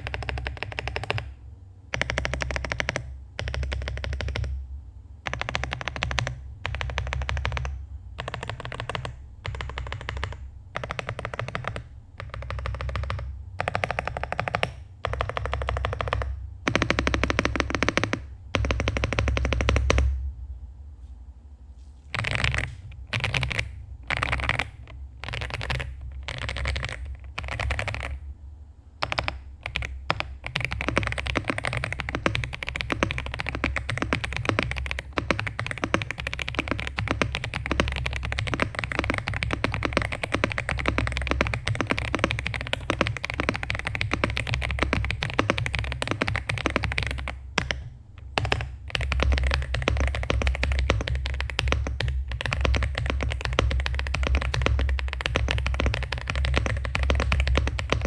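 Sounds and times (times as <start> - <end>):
mechanical keyboard typing: 0.0 - 4.6, 5.2 - 20.2, 22.1 - 28.2, 29.0 - 58.0.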